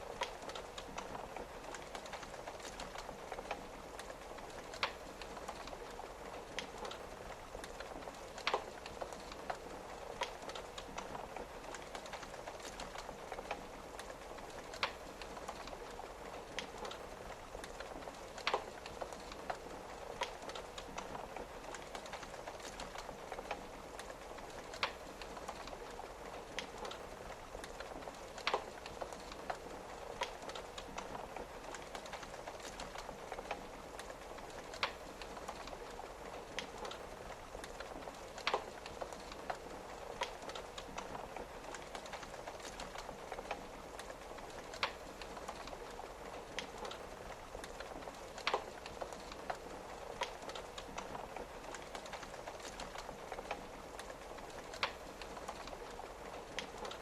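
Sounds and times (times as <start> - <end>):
rain on a window pane: 0.0 - 57.0
wood fire crackling: 0.0 - 57.0.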